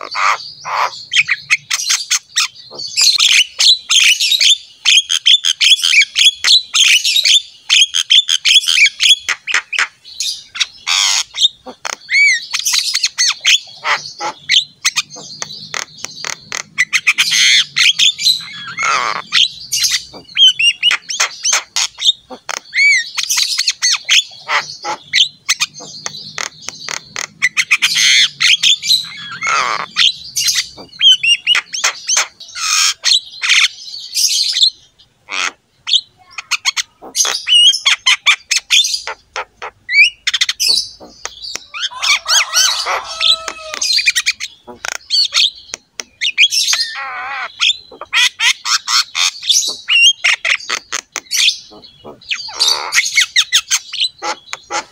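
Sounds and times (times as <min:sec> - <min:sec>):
bird singing with clicks and whistles: 0:00.0 - 0:54.9.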